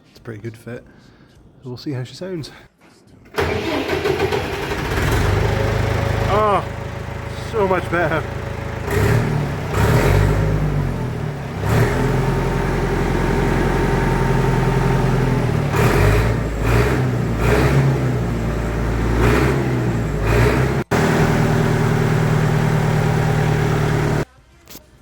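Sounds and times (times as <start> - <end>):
tractor engine revving: 3.4 - 24.3.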